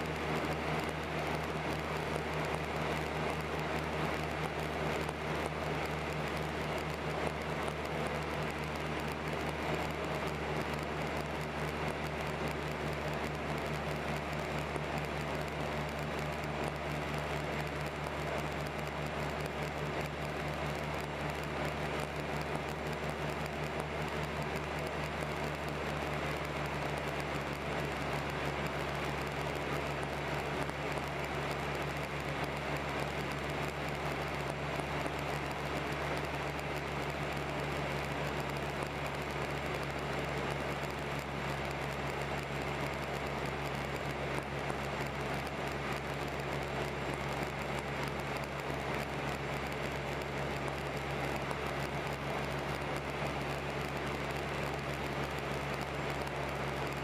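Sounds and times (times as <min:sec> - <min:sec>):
aircraft engines droning in cabin: 0:00.0 - 0:57.0.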